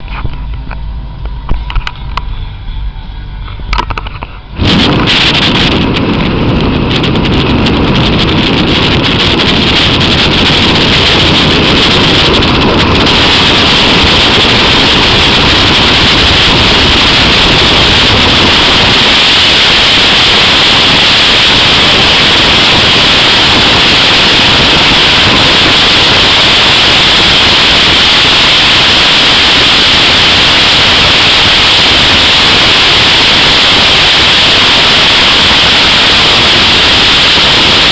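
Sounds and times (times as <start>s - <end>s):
wind and road noise: 0.0s - 37.9s
wind blowing on microphone: 3.5s - 37.9s.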